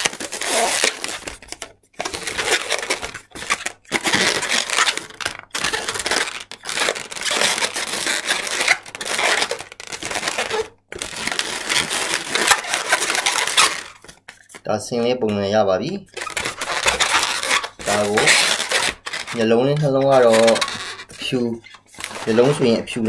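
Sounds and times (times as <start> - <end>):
balloons rubbing and squeaking: 0.0 - 23.0.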